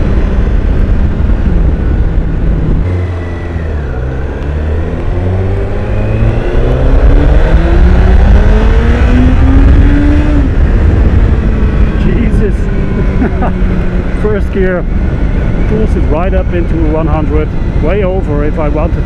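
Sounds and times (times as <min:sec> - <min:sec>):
motorcycle engine accelerating: 0:00.0 - 0:19.0
wind noise: 0:00.0 - 0:19.0.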